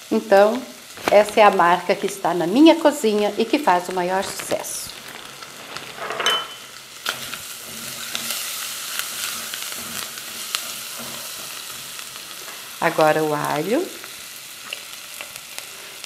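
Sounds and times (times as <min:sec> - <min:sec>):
meat and onion sizzling: 0:00.0 - 0:16.0.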